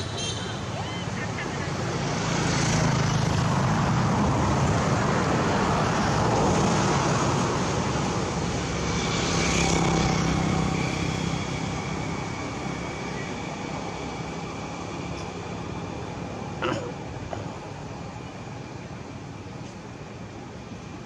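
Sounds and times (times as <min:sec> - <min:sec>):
traffic engine hum and road noise: 0:00.0 - 0:21.0.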